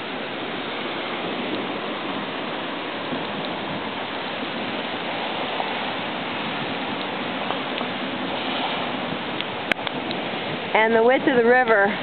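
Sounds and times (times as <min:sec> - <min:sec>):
flooded creek rushing: 0:00.0 - 0:12.0
steady rain: 0:00.0 - 0:12.0.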